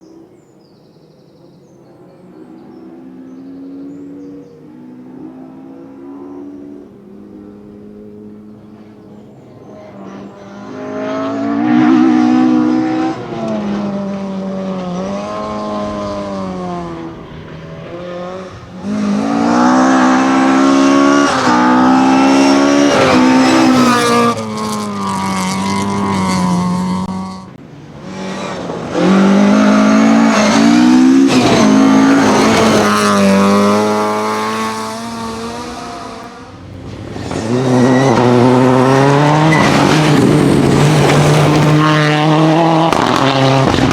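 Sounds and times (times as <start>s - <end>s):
rally car engines at full throttle: 0.0s - 43.9s.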